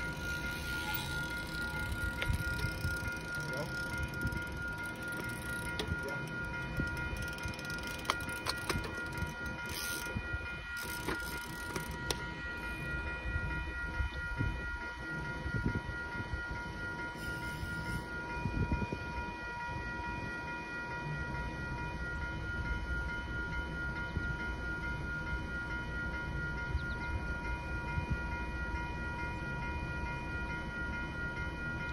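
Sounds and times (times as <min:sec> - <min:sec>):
crossing warning bell ringing: 0:00.0 - 0:31.9.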